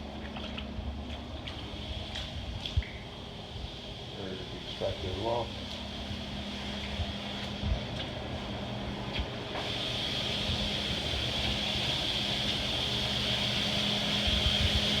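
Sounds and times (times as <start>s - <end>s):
machine humming and hissing: 0.8s - 15.0s.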